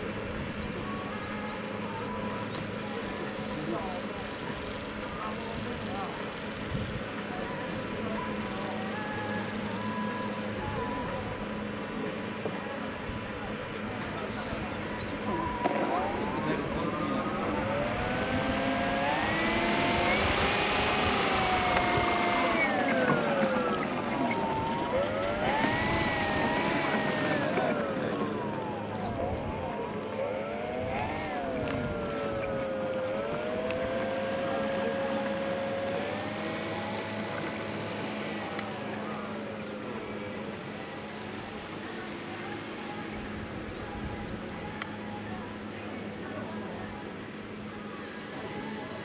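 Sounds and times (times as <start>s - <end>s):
electric motor and propeller whine: 0.0s - 49.0s.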